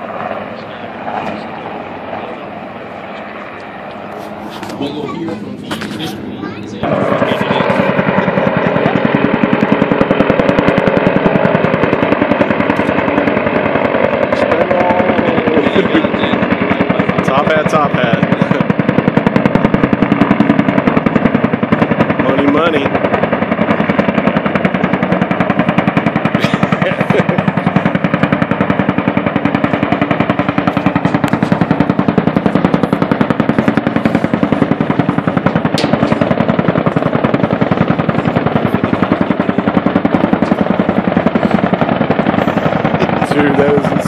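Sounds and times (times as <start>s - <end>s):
rapid machine-gun fire: 6.8s - 44.0s.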